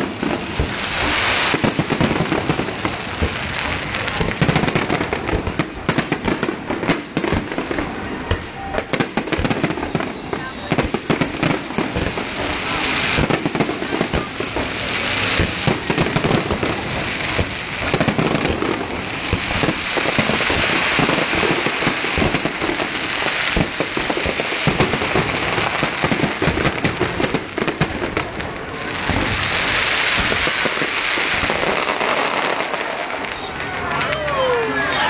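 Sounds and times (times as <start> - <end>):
fireworks banging: 0.0 - 35.0
fireworks crackling hiss: 0.0 - 35.0.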